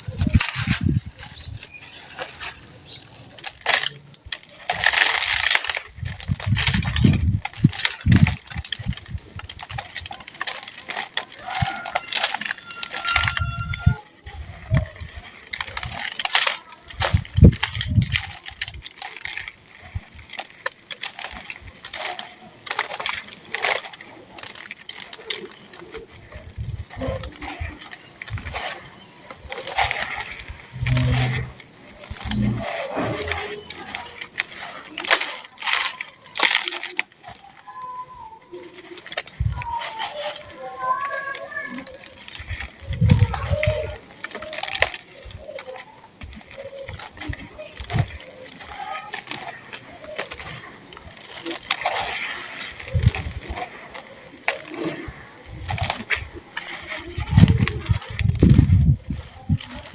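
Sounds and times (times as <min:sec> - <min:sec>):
brittle chunks crunching: 0:00.0 - 0:59.9.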